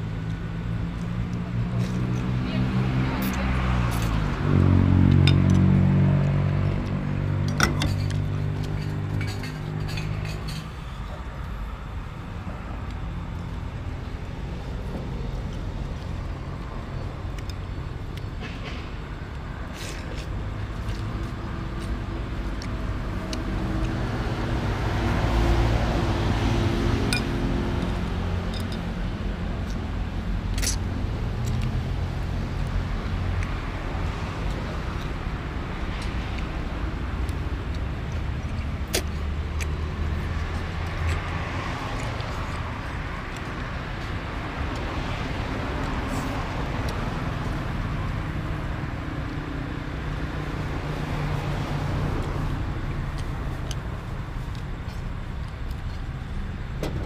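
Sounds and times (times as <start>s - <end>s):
traffic passing: 0.0s - 57.0s.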